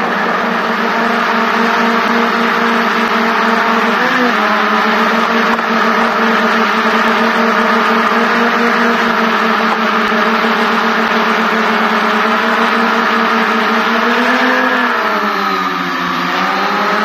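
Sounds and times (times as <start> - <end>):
drone propellers buzzing: 0.0 - 17.0.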